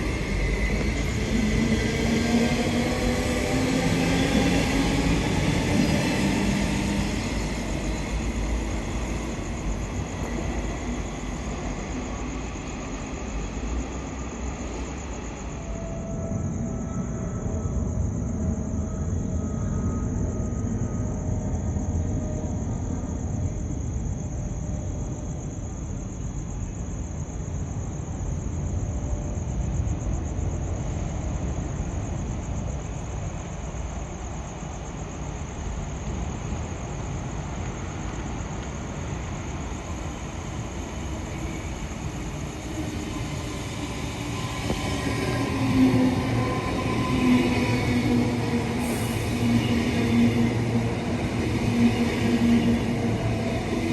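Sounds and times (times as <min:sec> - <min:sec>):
train rumbling on rails: 0:00.0 - 0:53.9.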